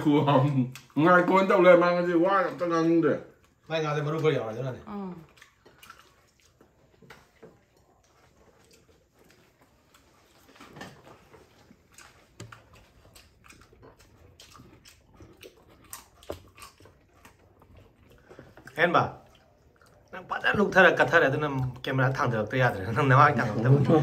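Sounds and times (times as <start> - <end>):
faint chewing and mouth sounds: 0.0 - 24.0.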